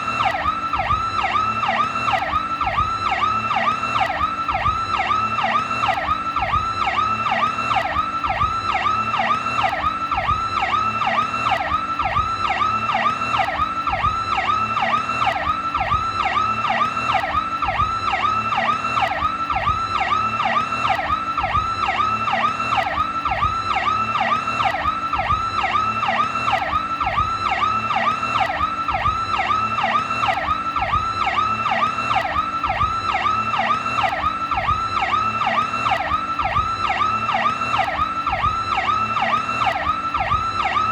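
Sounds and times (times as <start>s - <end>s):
police siren yelp: 0.0s - 40.9s.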